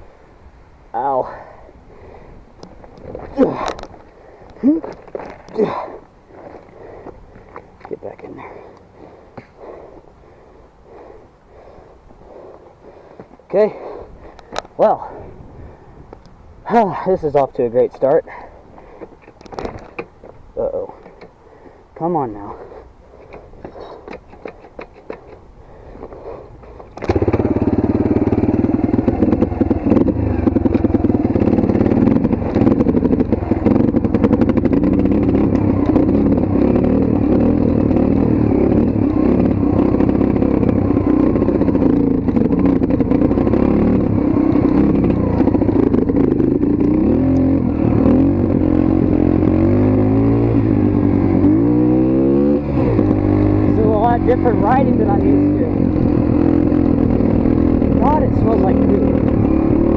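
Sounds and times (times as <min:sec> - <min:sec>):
motorcycle engine running: 0:02.6 - 0:15.1, 0:23.6 - 0:59.9.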